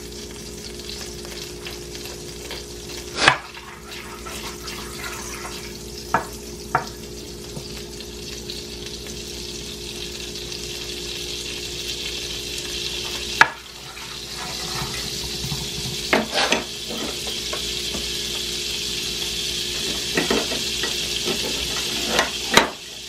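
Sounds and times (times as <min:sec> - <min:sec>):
butter sizzling in frying pan: 0:00.0 - 0:23.0.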